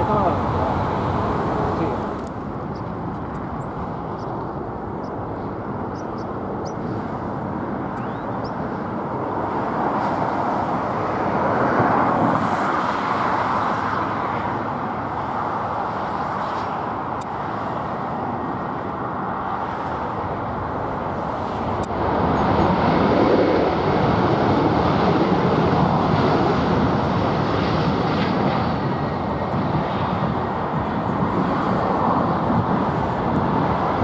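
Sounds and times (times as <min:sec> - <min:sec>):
jet airliner landing roar: 0:00.0 - 0:34.0.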